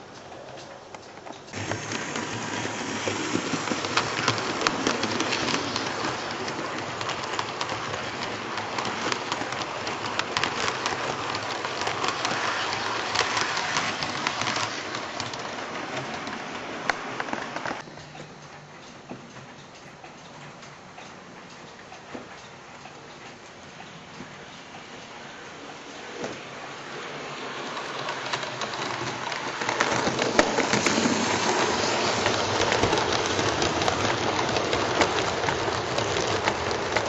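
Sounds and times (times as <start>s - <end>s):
model train wheels clattering: 0.0s - 37.0s.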